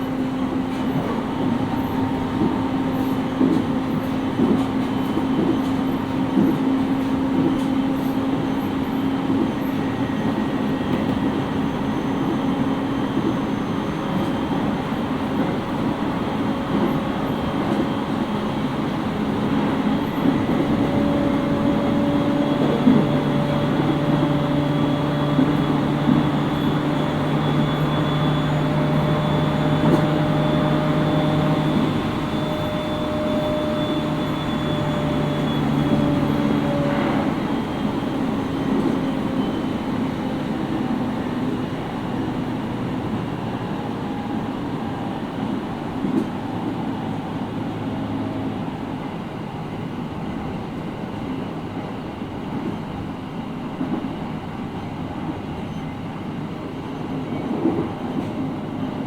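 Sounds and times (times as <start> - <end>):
train motor and inverter tones: 0.0 - 53.0
wheel and rail rumble: 0.0 - 59.0.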